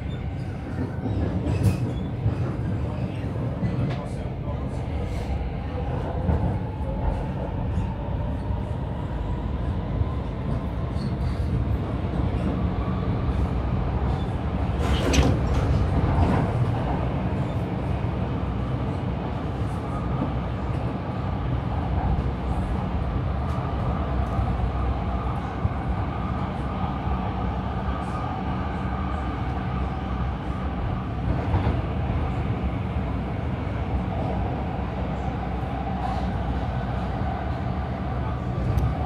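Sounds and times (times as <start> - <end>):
metro train rumbling: 0.0 - 39.0.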